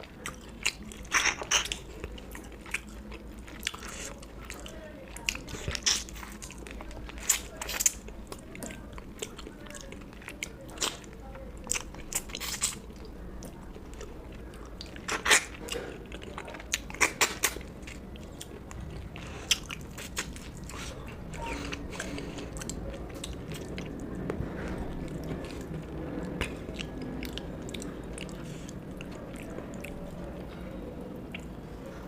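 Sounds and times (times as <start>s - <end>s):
person chewing food: 0.0s - 31.6s.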